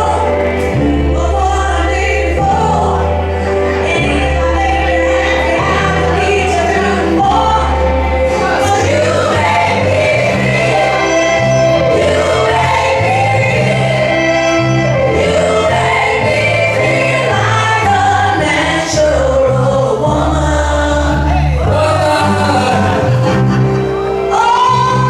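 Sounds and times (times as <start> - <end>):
gospel choir music: 0.0 - 25.0.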